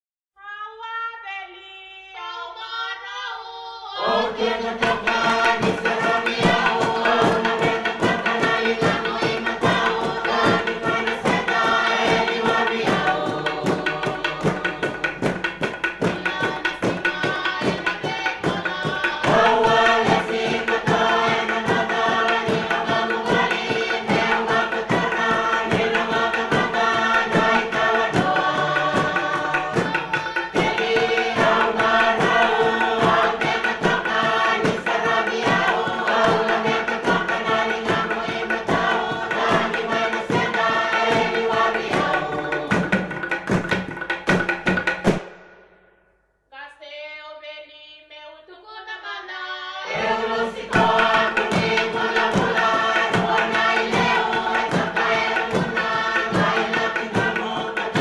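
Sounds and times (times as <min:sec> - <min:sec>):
group of singers: 0:00.4 - 0:44.4, 0:48.4 - 0:58.0
rhythmic percussion: 0:03.9 - 0:46.1, 0:49.8 - 0:58.0.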